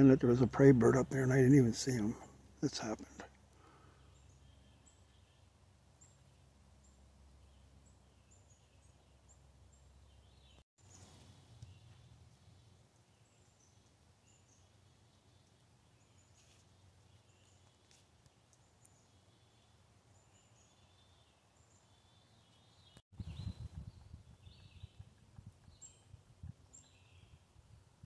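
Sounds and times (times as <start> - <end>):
small birds chirping: 0.7 - 28.0.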